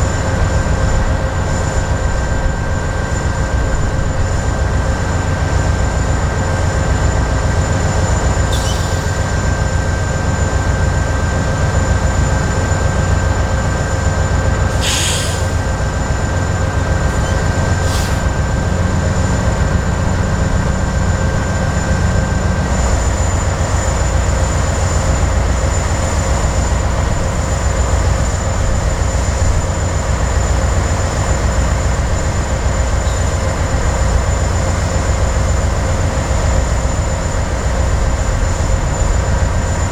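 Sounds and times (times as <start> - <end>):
train low rumble: 0.0 - 39.9.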